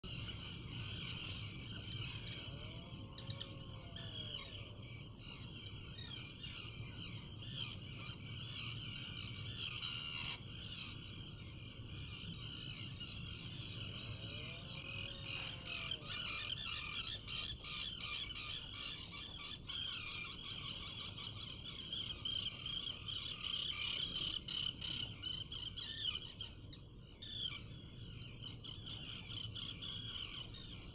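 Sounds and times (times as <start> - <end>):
seabirds calling: 0.0 - 30.9.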